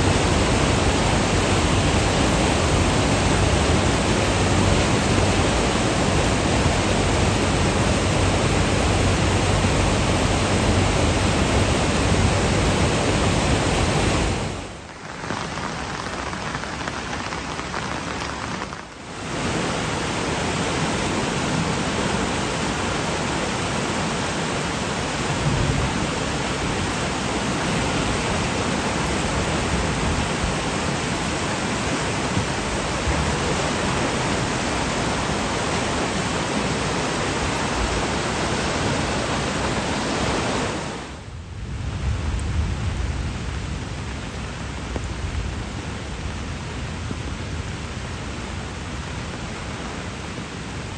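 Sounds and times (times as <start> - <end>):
floodwater rushing: 0.0 - 41.3.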